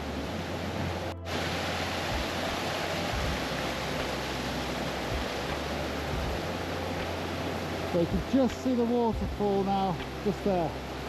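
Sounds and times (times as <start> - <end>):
rushing stream and waterfall: 0.0 - 11.0
wind rumble on microphone: 0.0 - 11.0.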